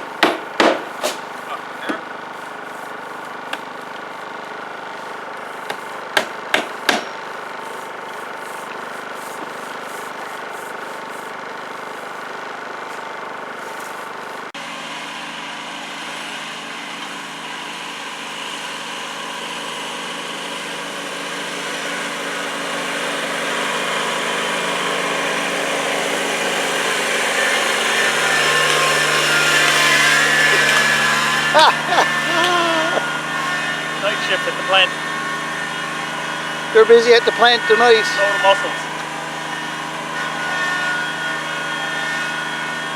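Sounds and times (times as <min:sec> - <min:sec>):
engine humming steadily: 0:00.0 - 0:40.2.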